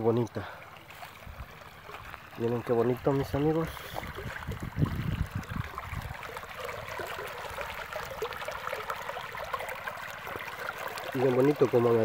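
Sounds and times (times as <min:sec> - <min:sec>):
shallow water trickling over stones: 0:00.0 - 0:12.0.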